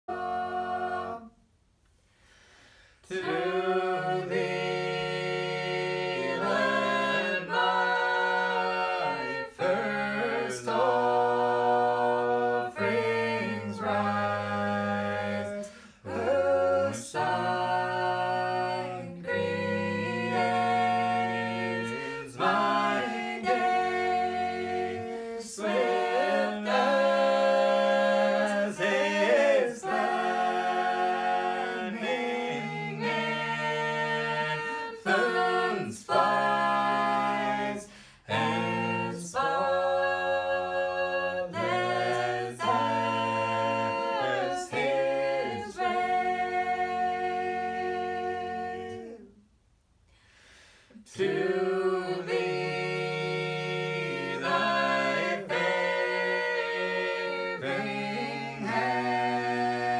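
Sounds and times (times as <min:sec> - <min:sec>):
unaccompanied voices singing hymn: 0:00.0 - 0:01.4, 0:02.3 - 0:49.4, 0:50.3 - 0:59.9.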